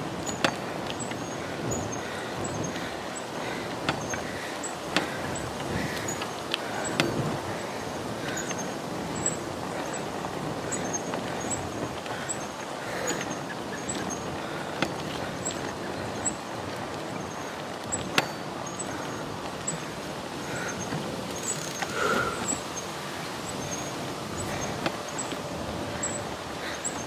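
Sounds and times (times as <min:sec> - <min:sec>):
bicycle rolling noise: 0:00.0 - 0:27.0
wind: 0:00.0 - 0:27.0.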